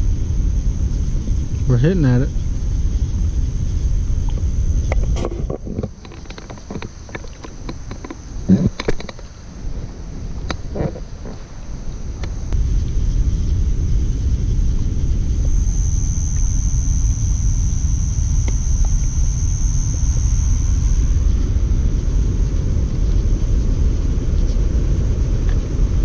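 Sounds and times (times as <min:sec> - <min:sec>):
high steady whine: 0:00.0 - 0:26.0
low rumble: 0:00.0 - 0:26.0.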